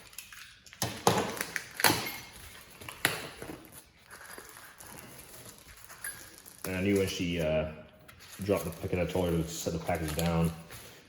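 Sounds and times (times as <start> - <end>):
plastic packaging crackling: 0.0 - 11.0
plastic rustling and scraping: 0.0 - 11.0.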